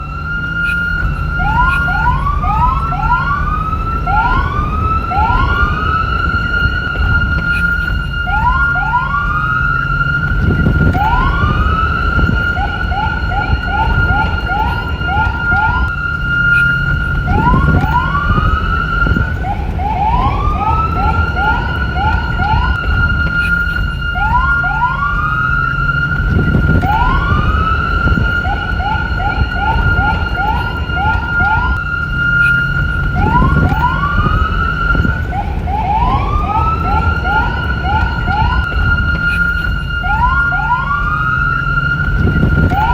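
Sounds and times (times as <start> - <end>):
low rumble: 0.0 - 42.9
police siren: 0.0 - 42.9.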